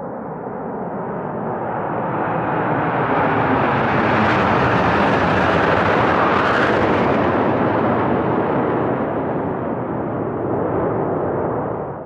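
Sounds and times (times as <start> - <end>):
jets flying past overhead: 1.2 - 12.0.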